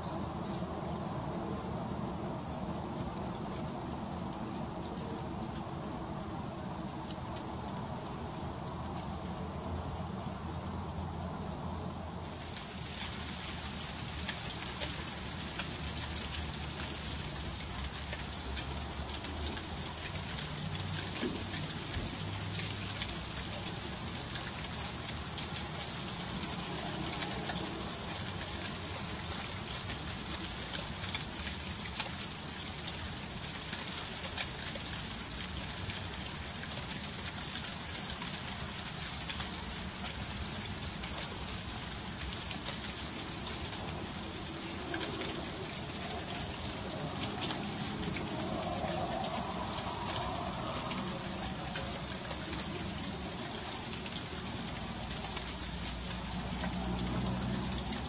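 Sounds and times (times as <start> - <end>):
freezing rain hissing: 0.0 - 58.0.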